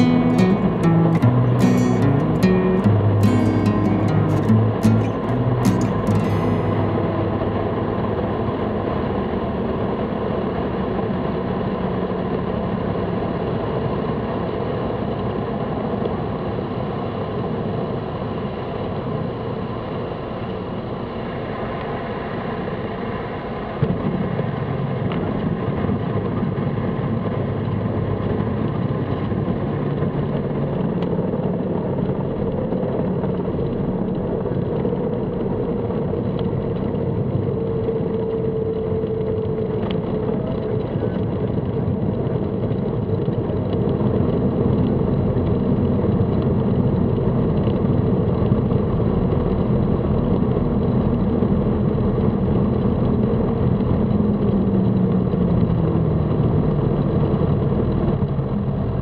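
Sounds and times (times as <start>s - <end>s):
plane engine and propeller: 0.0s - 59.0s.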